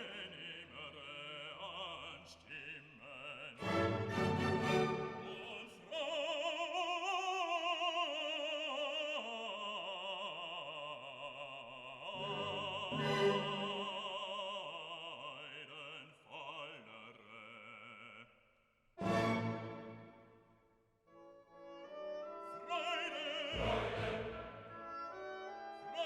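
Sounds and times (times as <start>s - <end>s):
slow opera-like classical music: 0.0s - 18.2s, 19.0s - 26.0s.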